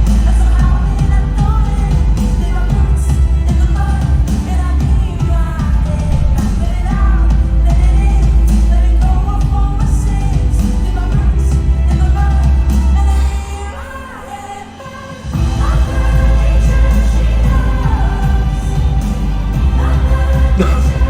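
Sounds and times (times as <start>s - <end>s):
backing track with deep bass: 0.0s - 13.3s, 15.4s - 21.0s
woman singing with vibrato: 0.0s - 21.0s.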